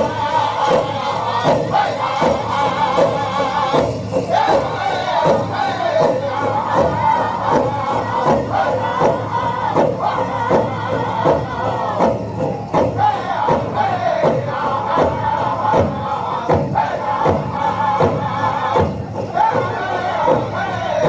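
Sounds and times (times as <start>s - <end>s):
steady drumbeat: 0.0s - 21.0s
voices singing chant-like lines: 0.0s - 21.0s.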